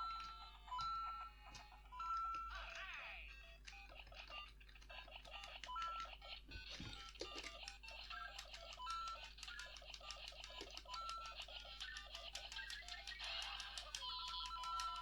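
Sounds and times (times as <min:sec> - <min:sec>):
beeping electronic toy music: 0:00.0 - 0:15.0.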